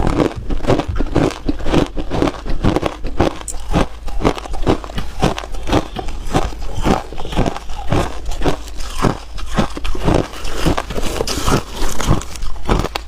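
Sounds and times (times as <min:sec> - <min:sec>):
person crunching ice: 0:00.0 - 0:13.0.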